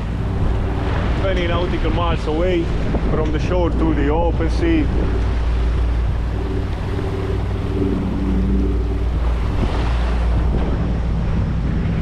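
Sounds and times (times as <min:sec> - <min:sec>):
marine diesel engine rumbling: 0:00.0 - 0:12.0
water rushing past hull: 0:00.0 - 0:12.0
wind buffeting microphone: 0:00.0 - 0:12.0.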